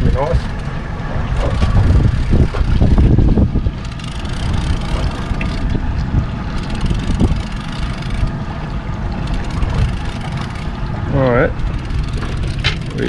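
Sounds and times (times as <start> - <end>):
motorboat engine rumble: 0.0 - 13.0
wind on microphone: 0.0 - 13.0.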